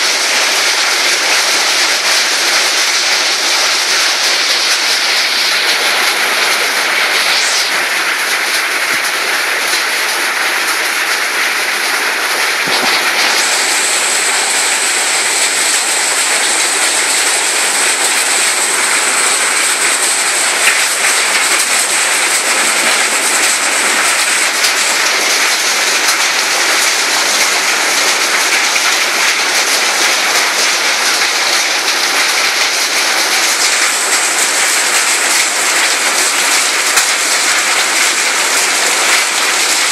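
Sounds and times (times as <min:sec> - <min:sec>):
heavy rain on roofs and paving: 0:00.0 - 0:39.9.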